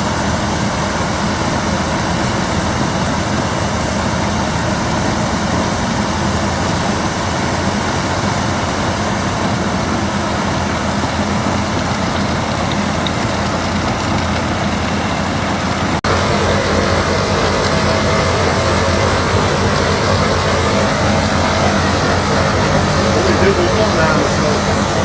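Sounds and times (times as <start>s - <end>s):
wood chipper chipping branches: 0.0s - 25.0s.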